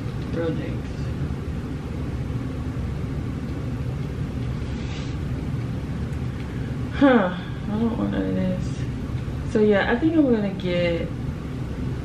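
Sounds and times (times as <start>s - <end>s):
faint hum: 0.0s - 12.0s
steady low rumble: 0.0s - 12.0s.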